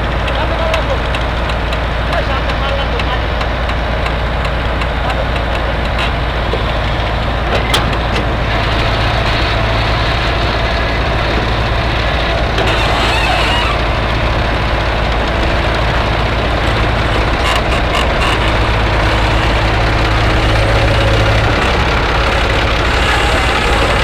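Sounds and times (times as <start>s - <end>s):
heavy machine engine humming: 0.0s - 24.0s.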